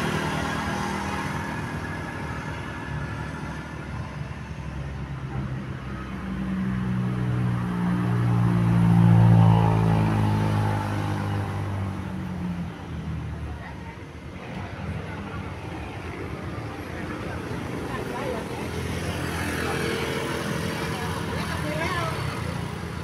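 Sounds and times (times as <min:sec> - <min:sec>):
bus engine drone: 0:00.0 - 0:23.0.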